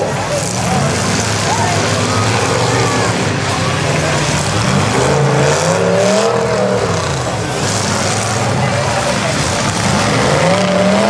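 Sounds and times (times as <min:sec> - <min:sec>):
dense noisy din: 0:00.0 - 0:11.0
truck engines revving loudly: 0:00.0 - 0:11.0.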